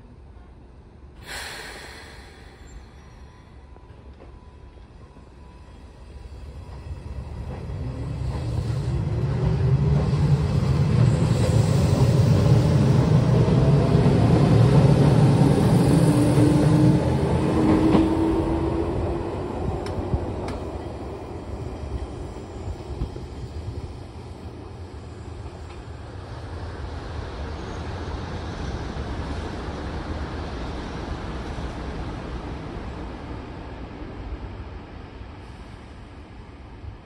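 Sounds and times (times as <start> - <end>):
train wheels rumbling on rails: 3.8 - 36.4.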